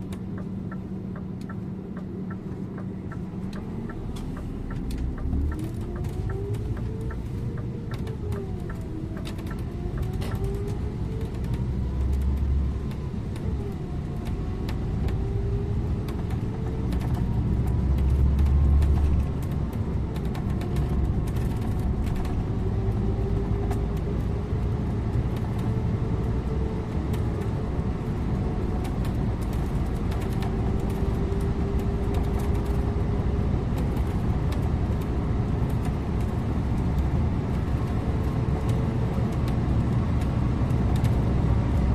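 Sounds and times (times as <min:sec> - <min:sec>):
bus engine and tyre rumble: 0:00.0 - 0:41.9
drivetrain whine: 0:00.0 - 0:41.9.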